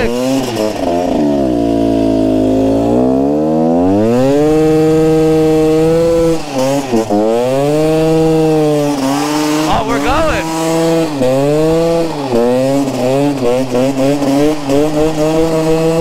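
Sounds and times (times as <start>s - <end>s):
two-stroke motorcycle engine: 0.0s - 16.0s.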